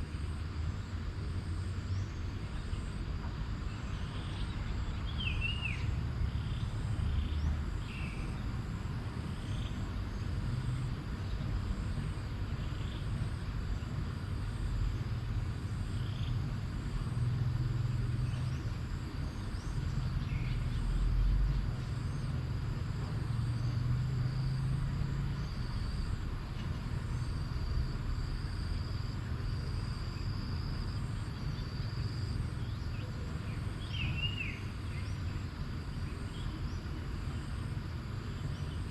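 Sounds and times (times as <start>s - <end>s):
high insect drone: 0.0s - 38.9s
low outdoor rumble: 0.0s - 38.9s.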